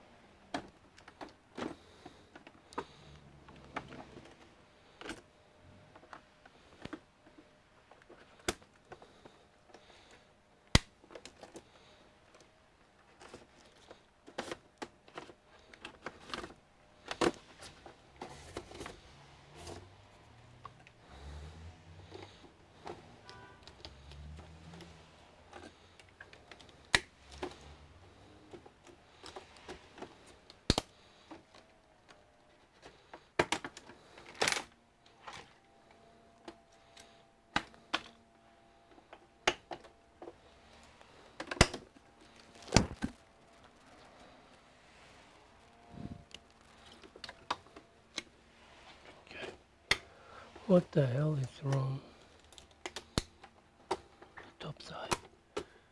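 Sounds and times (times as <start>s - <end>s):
plastic parts clicking and knocking: 0.4s - 5.3s, 5.9s - 21.0s, 22.0s - 44.3s, 45.6s - 48.4s, 52.2s - 55.9s.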